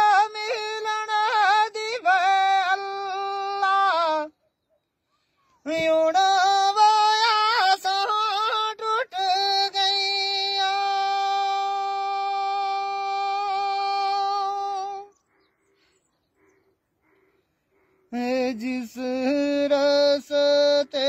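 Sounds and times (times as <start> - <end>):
man singing unaccompanied: 0.0 - 4.4, 5.6 - 15.2, 18.1 - 21.0.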